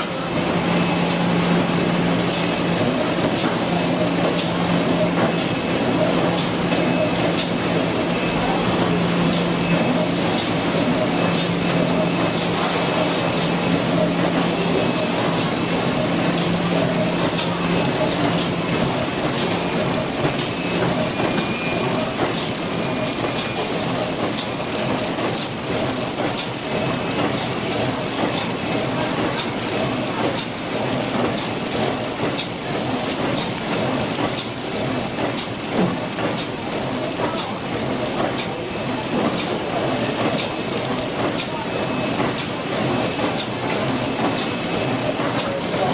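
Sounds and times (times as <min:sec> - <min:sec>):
packaging machine clatter: 0:02.2 - 0:45.9.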